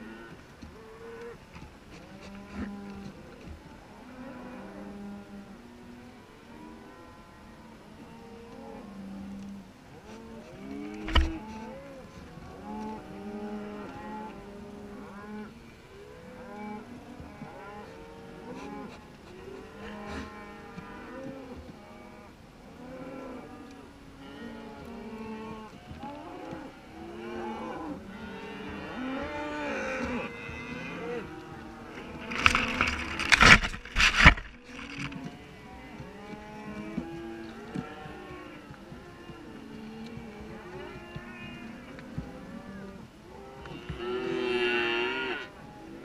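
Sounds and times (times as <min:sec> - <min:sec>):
cows and calves mooing: 0:02.0 - 0:46.0.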